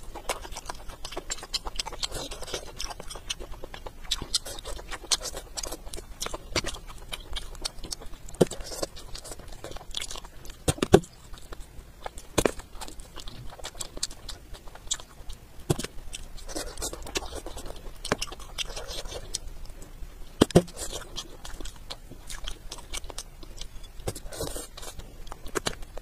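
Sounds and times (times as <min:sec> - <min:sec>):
small crunches: 0:00.0 - 0:26.0
wet chewing and biting: 0:00.0 - 0:26.0.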